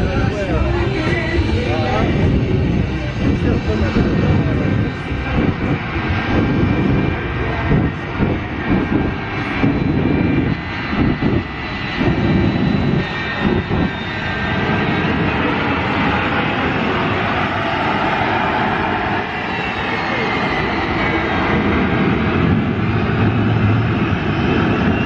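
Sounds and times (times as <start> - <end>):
airplane flying overhead: 0.0 - 25.0.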